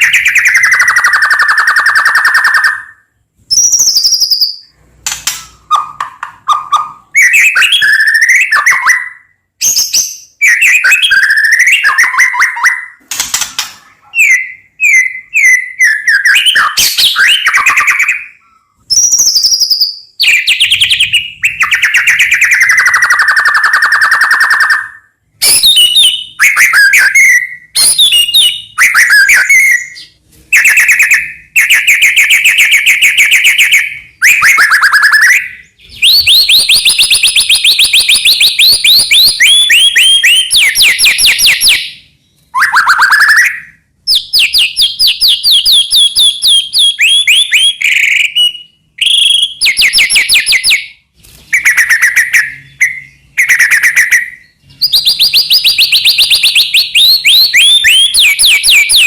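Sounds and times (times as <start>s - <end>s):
songbird singing whistles and trills: 0.0s - 59.0s.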